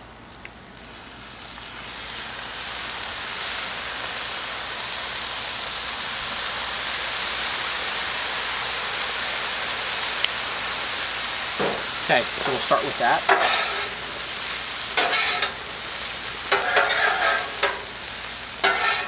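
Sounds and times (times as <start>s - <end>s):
sauce sizzling on hot griddle: 0.0s - 19.0s.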